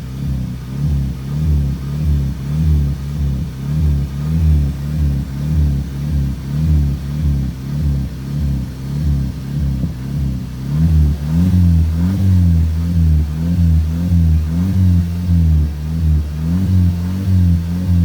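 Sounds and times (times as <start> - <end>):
car engine revving in blips: 0.0 - 18.0.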